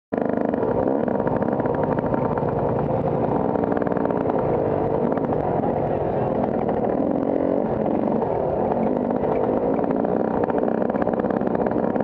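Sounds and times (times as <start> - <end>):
motocross bike engine running: 0.1 - 12.0.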